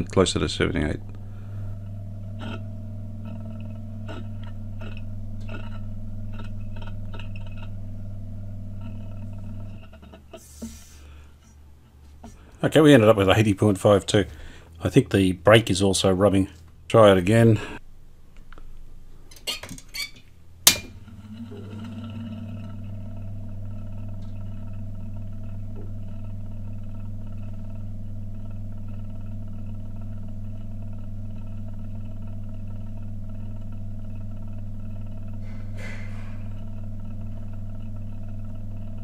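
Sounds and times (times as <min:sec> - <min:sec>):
turntable motor humming: 0:00.0 - 0:17.8, 0:19.9 - 0:39.0.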